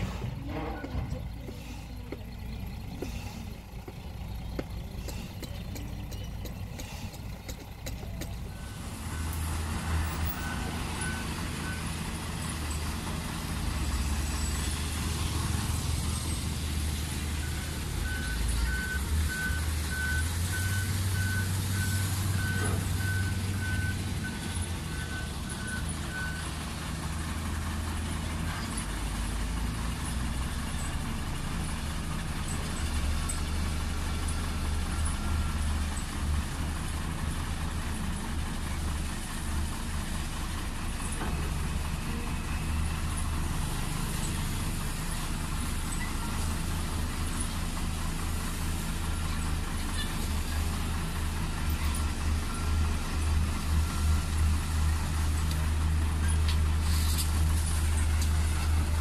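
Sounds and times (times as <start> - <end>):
diesel truck engines: 0.0 - 59.0.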